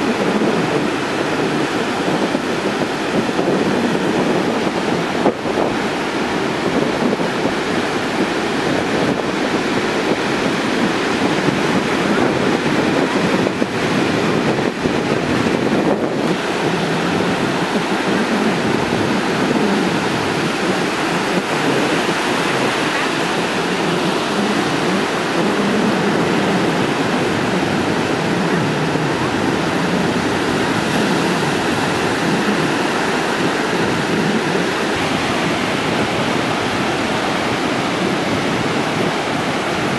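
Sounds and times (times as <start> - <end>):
heavy surf breaking on beach: 0.0 - 39.9.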